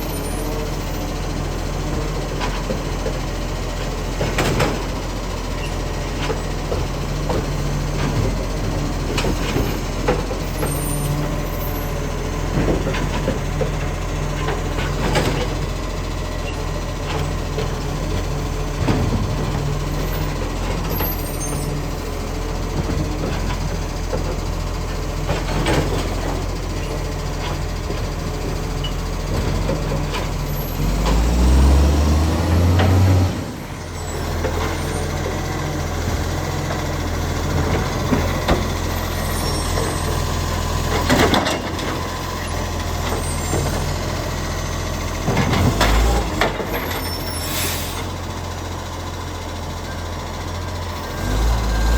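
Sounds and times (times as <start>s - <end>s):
garbage truck diesel engine running: 0.0s - 51.9s.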